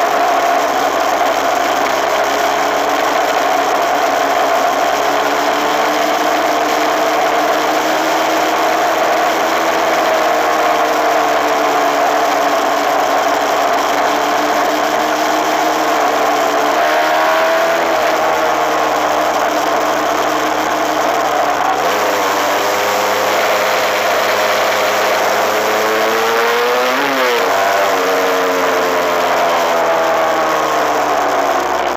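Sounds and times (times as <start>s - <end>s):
dirt bike engine running: 0.0s - 31.9s.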